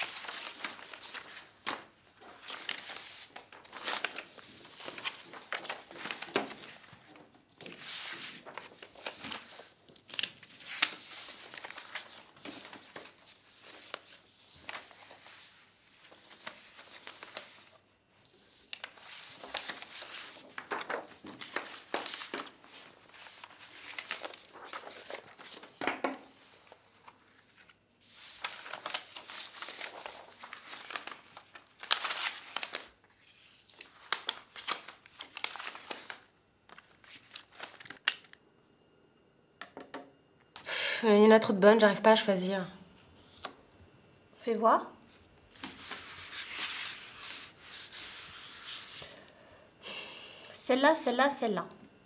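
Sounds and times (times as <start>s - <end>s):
paper rustling and crinkling: 0.0s - 38.4s, 45.1s - 49.2s.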